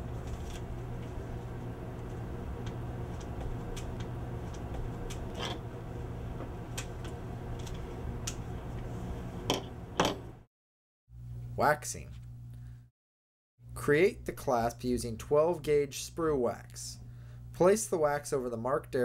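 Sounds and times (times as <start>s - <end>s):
steady low hum: 0.0s - 10.5s, 13.7s - 19.0s.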